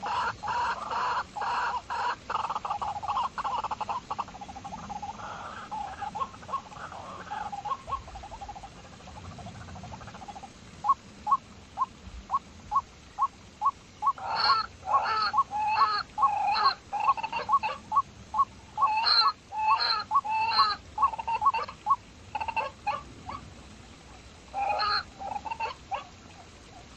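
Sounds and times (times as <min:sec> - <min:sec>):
harsh animal calls: 0:00.0 - 0:11.9, 0:14.0 - 0:23.4, 0:24.5 - 0:26.1.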